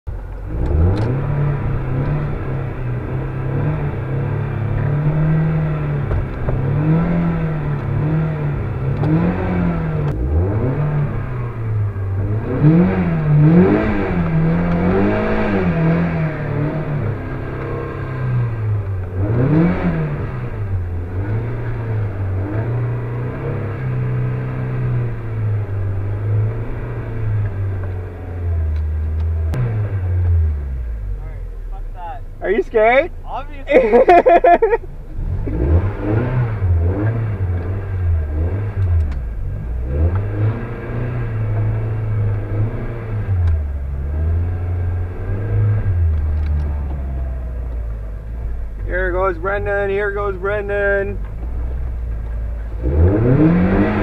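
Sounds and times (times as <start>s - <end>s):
car engine revving: 0.1s - 54.0s.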